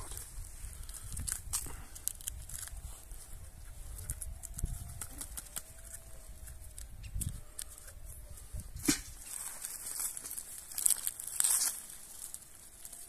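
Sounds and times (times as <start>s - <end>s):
soil crumbling and roots snapping: 0.0s - 8.0s, 8.8s - 13.0s.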